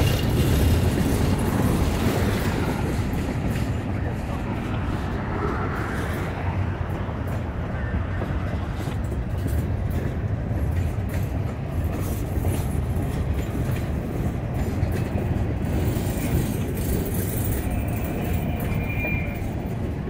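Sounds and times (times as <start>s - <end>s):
wheel clicks and clacks: 0.0s - 6.3s, 8.2s - 20.0s
freight train wheels rumbling on rail: 0.0s - 20.0s.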